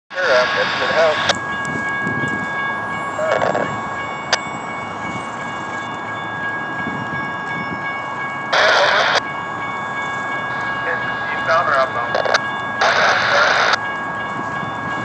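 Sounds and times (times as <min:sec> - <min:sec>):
freight train approaching: 0:00.1 - 0:15.0.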